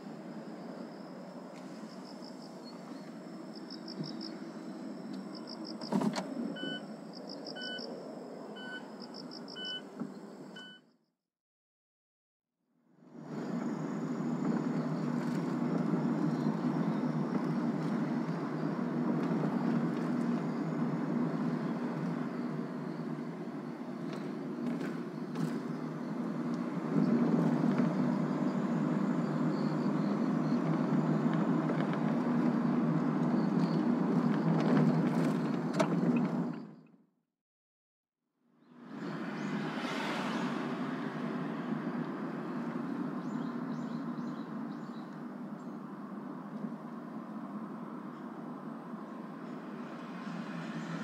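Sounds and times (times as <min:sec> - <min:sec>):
car engine and tyre noise: 0:00.0 - 0:10.8, 0:12.8 - 0:37.1, 0:38.5 - 0:51.0.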